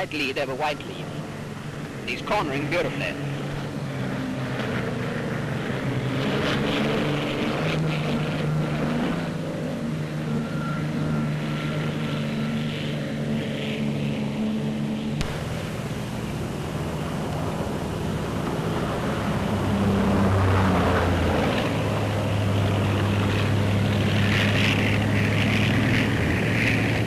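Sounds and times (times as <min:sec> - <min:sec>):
racing motorboat engines droning: 0:00.0 - 0:27.0
rush of noise: 0:00.0 - 0:27.0.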